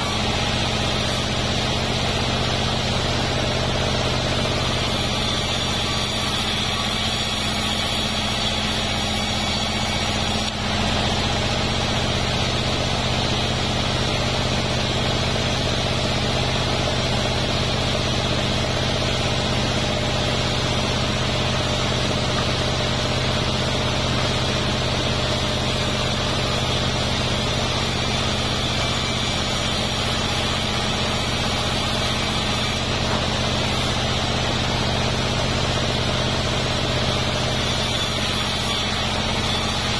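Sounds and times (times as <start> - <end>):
bandsaw mill humming: 0.0 - 39.9
saw cutting wood: 0.0 - 39.9.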